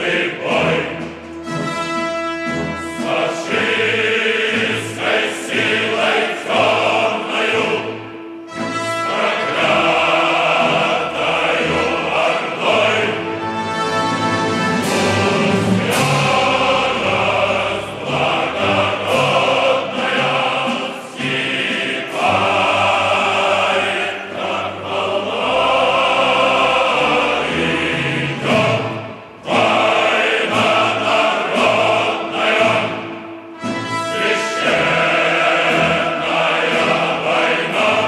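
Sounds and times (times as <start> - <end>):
choir singing held chords: 0.0 - 38.0.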